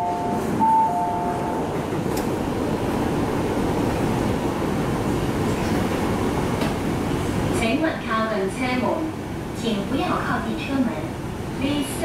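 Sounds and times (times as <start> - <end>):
train car rumble and hum: 0.0 - 12.0.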